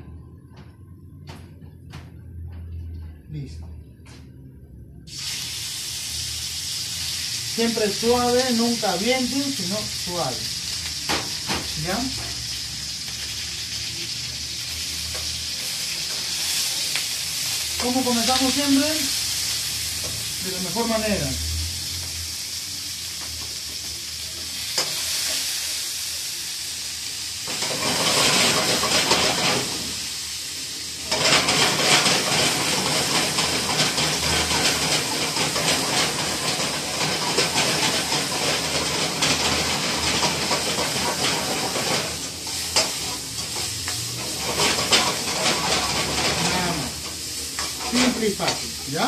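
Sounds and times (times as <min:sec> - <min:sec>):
wok flaring up: 0:04.8 - 0:49.0
food sizzling in a wok: 0:05.0 - 0:49.0.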